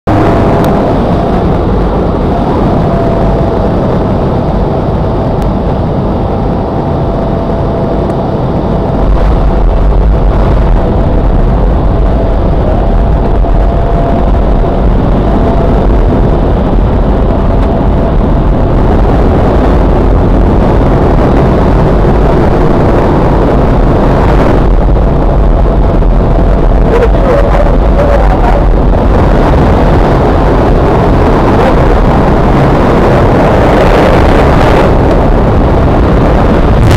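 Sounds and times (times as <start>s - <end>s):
plane engine and propeller drone: 0.0s - 36.9s.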